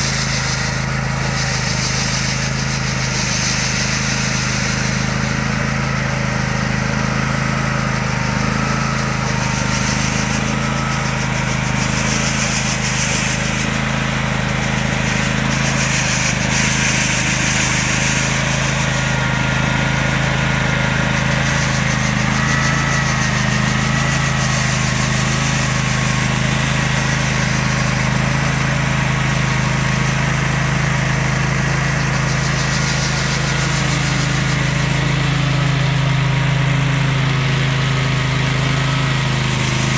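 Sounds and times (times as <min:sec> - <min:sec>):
ride-on mower engine running: 0:00.0 - 0:39.9
rotary brush sweeping snow: 0:00.0 - 0:39.9.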